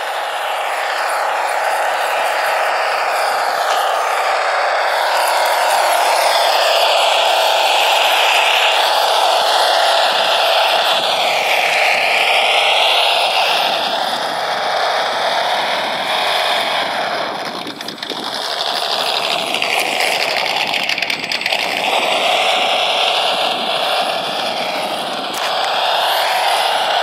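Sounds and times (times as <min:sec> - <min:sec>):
simulated truck engine from speaker: 0:00.0 - 0:27.0.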